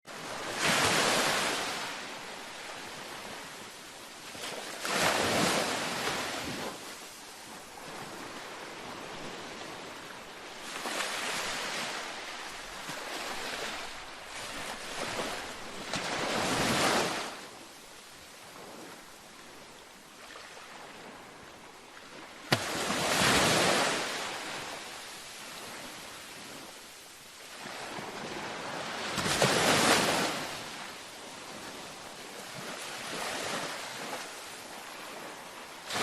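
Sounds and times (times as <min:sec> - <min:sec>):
ocean waves washing onto beach: 0:00.1 - 0:36.0.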